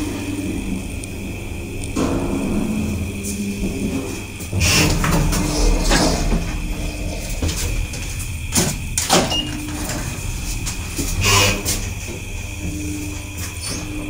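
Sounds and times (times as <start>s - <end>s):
elevator doors sliding: 0.0s - 14.0s
low hum: 0.0s - 14.0s.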